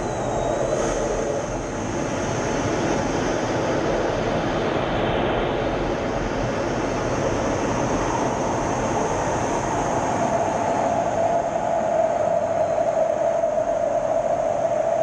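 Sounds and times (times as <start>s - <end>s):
jet engine roar in cockpit: 0.0s - 15.0s.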